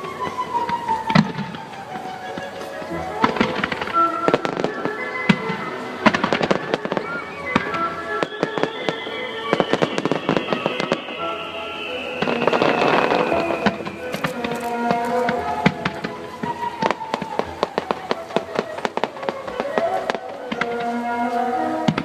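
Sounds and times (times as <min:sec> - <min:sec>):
firework crackling: 0:00.0 - 0:22.0
firework shells bursting: 0:00.0 - 0:22.0
long falling tone: 0:00.0 - 0:22.0
music: 0:00.0 - 0:22.0.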